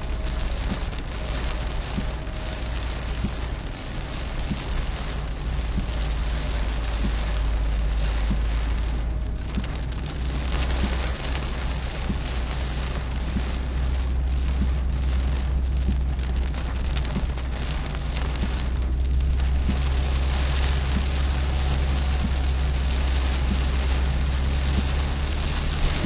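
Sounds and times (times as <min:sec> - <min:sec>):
car driving drone: 0:00.0 - 0:26.0
rain drops ticking: 0:00.0 - 0:26.0
rain on a car: 0:00.0 - 0:26.0.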